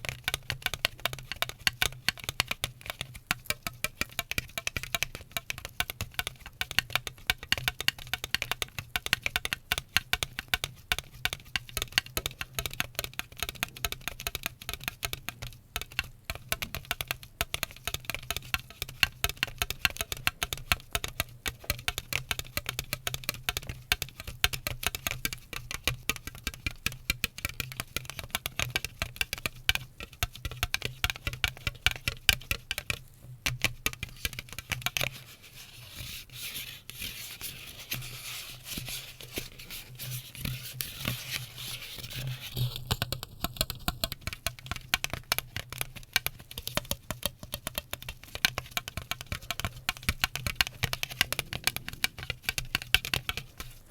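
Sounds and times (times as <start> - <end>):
rapid tapping and clicking: 0.0 - 53.9.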